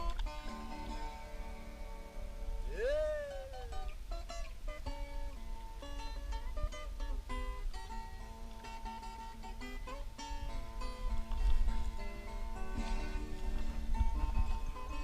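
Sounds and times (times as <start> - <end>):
plucked acoustic guitar melody: 0.0 - 15.0.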